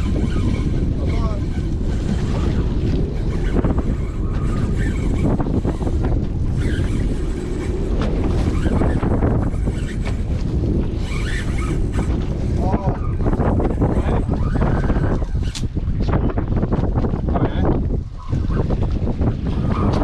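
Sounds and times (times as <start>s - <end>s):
waves washing around boat: 0.0s - 20.0s
wind buffeting microphone: 0.0s - 20.0s.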